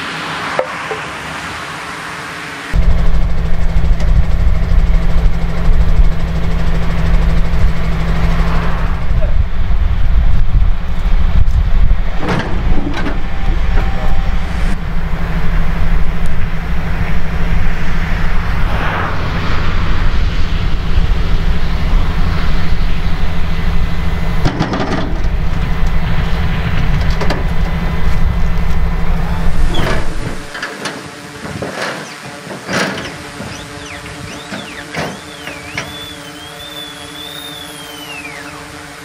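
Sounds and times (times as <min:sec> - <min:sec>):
diesel engine idling: 0:02.8 - 0:30.5, 0:33.5 - 0:38.5.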